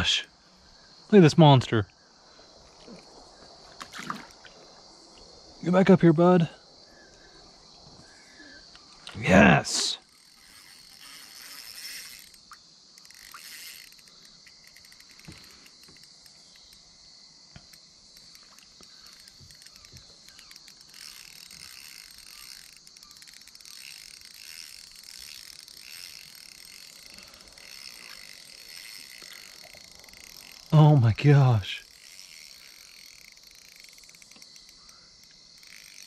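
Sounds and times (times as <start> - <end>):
crickets and insects chirring: 0.0 - 36.0.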